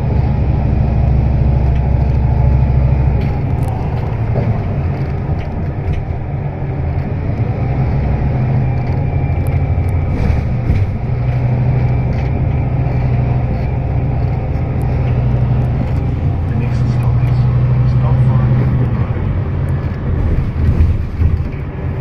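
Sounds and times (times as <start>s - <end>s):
bus engine humming: 0.0s - 22.0s
road noise: 0.0s - 22.0s.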